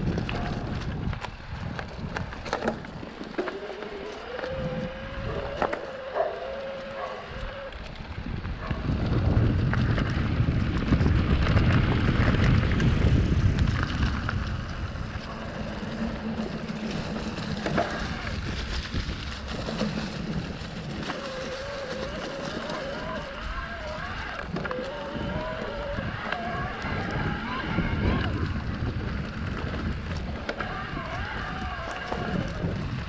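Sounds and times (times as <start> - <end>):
bike rattling over bumps: 0.0 - 33.0
wind buffeting microphone: 0.0 - 33.0
electric motor whine: 2.2 - 8.2, 11.5 - 33.0.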